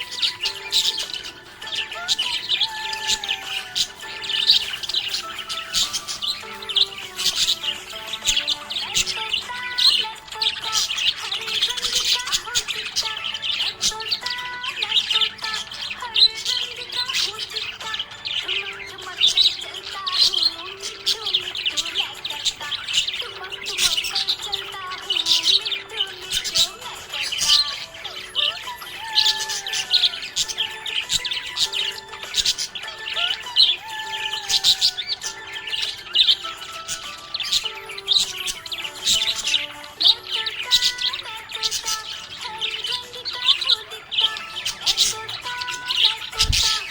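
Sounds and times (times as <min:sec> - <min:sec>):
background music with held notes: 0:00.0 - 0:46.9
budgies chirping and chattering: 0:00.0 - 0:46.9.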